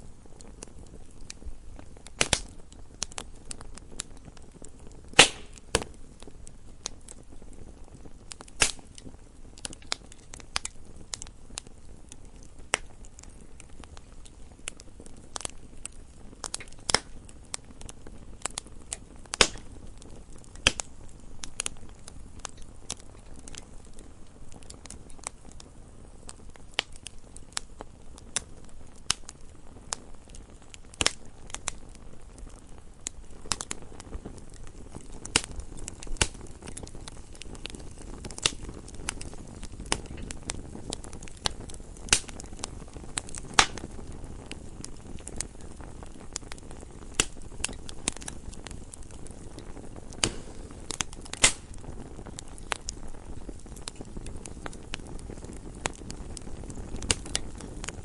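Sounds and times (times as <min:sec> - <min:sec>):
campfire crackling: 0:00.0 - 0:58.0
low steady hiss: 0:00.0 - 0:58.0.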